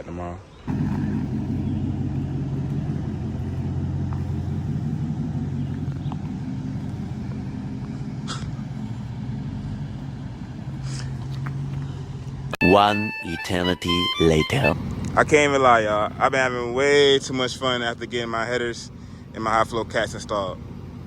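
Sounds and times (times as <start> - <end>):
car engine and exhaust rumbling: 0.5 - 21.0.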